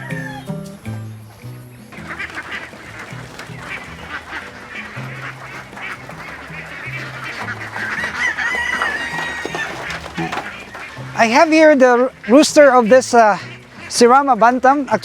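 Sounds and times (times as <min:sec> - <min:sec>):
background music with bass line: 0:00.0 - 0:15.0
ducks quacking: 0:00.0 - 0:15.0.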